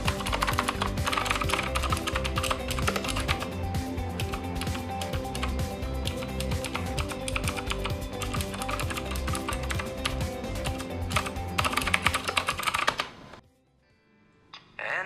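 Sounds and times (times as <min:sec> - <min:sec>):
mechanical keyboard typing: 0:00.0 - 0:03.5, 0:04.3 - 0:13.2
background music: 0:00.0 - 0:15.0.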